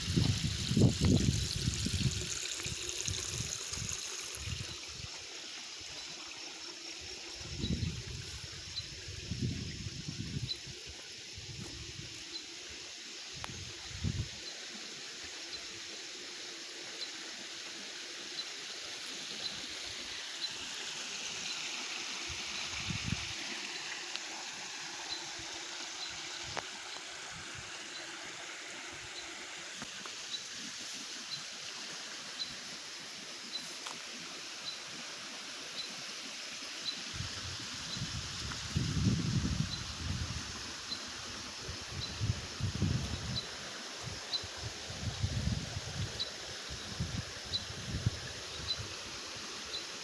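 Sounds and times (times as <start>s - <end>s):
stream trickling and gurgling: 0.0s - 50.0s.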